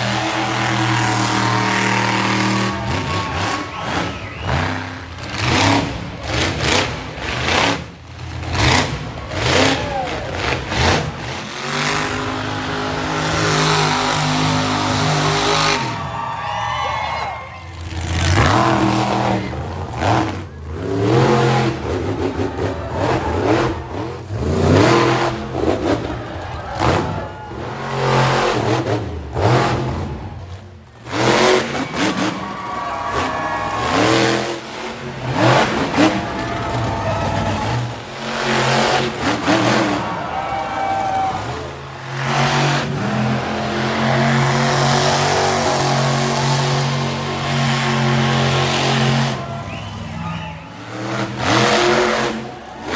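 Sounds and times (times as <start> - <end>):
monster truck engines revving: 0.0 - 52.9.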